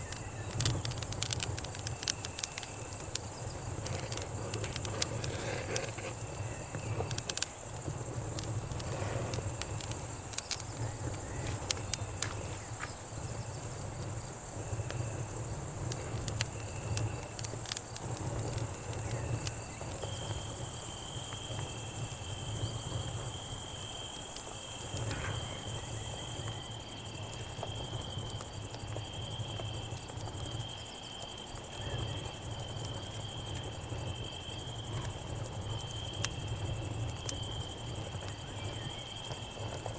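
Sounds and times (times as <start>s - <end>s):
campfire crackling: 0.0s - 39.9s
cicada drone: 0.0s - 39.9s
cricket trill: 0.0s - 39.9s.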